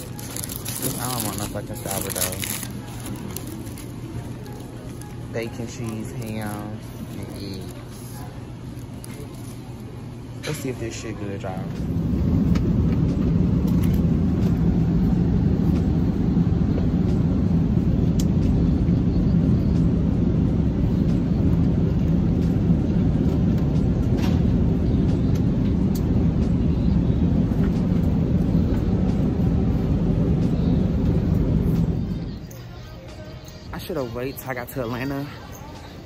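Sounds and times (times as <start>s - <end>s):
airliner cabin rumble: 0.0s - 32.5s.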